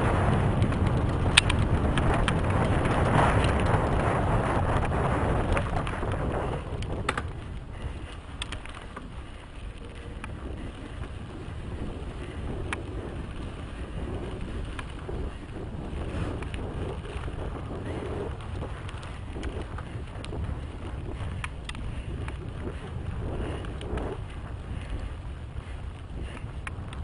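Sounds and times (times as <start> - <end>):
bike clicks and rattles: 0.0 - 27.0
tyres rumbling on dirt: 0.0 - 27.0
wind buffeting microphone: 0.0 - 27.0.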